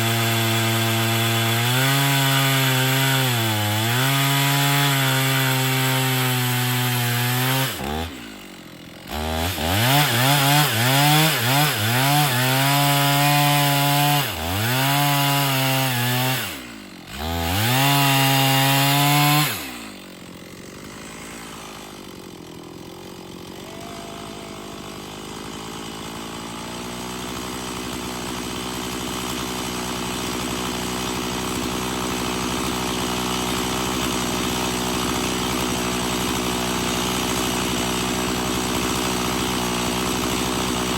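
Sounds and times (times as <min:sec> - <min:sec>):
chainsaw ripping a board: 0:00.0 - 0:40.9.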